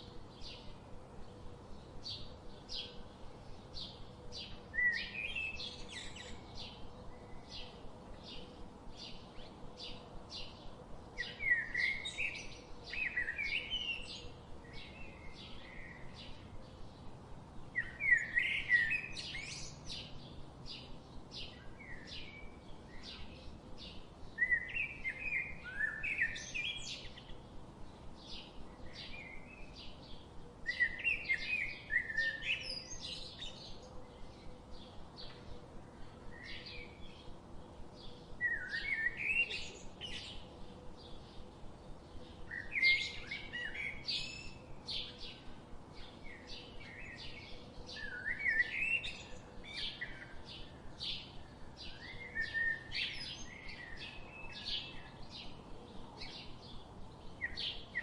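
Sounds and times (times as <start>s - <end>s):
bird warbling songs: 0.0s - 58.0s.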